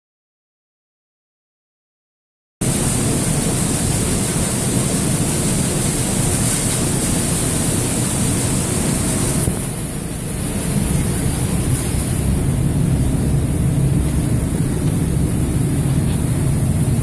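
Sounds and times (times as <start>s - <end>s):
dust extractor fan running: 2.6s - 17.0s.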